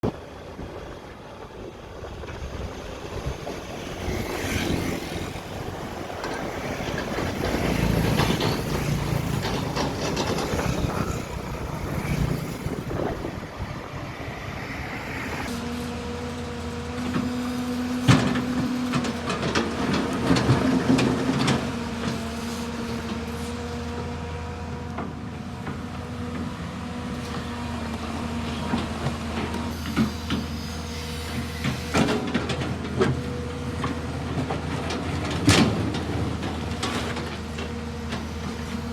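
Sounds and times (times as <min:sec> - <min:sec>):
heavy machinery engine drone: 0:00.0 - 0:38.9.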